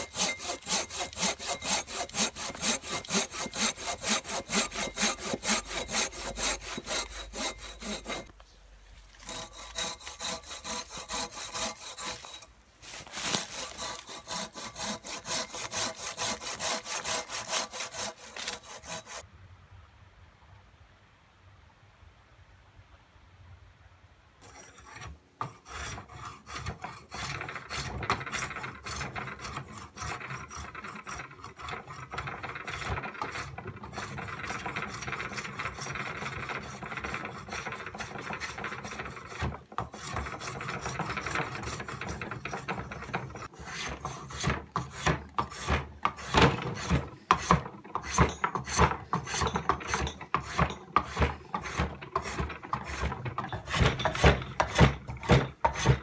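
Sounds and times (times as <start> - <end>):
hand tool rasping on wood: 0.0 - 8.3, 9.2 - 19.2, 24.4 - 56.0.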